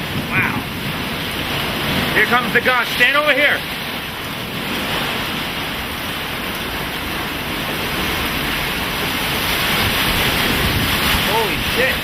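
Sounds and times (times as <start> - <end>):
heavy rain: 0.0 - 12.0
wind gusts: 0.0 - 12.0.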